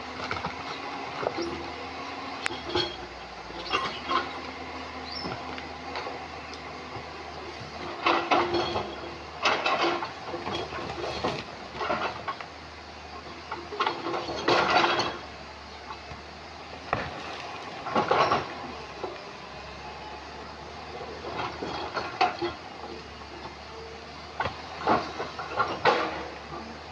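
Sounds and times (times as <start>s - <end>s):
excavator engine running: 0.0s - 26.9s.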